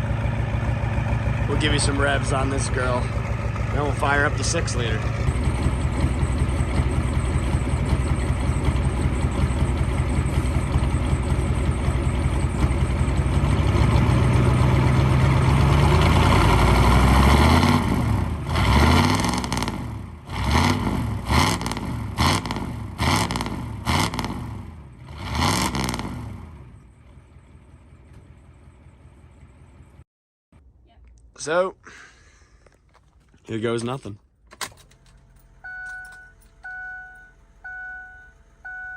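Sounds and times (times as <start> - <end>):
diesel engine idling and revving: 0.0 - 30.0, 34.8 - 38.9.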